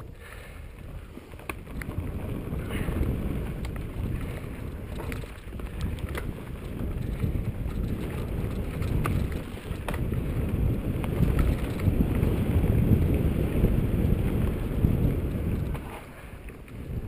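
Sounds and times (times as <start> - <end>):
bike clicks and rattles: 0.0 - 17.0
tyres rumbling on dirt trail: 0.0 - 17.0
wind buffeting microphone: 0.0 - 17.0.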